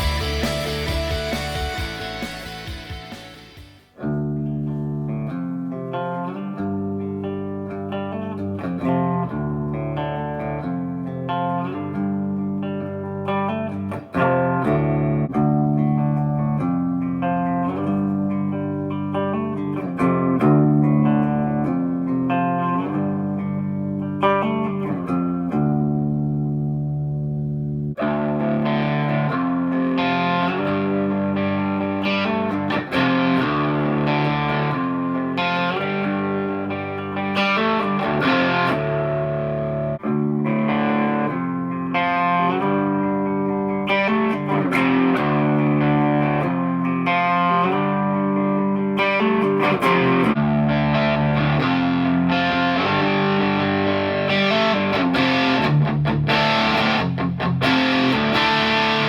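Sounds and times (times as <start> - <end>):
electric guitar chords and picking: 0.0 - 59.0.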